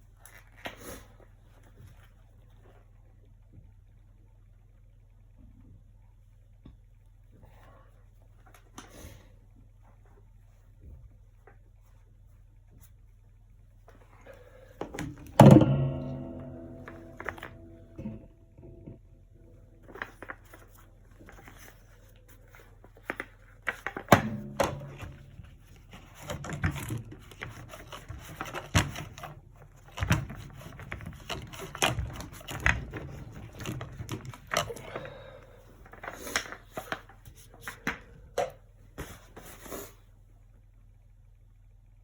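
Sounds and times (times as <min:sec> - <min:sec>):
faint steady low hum: 0:00.0 - 0:42.0.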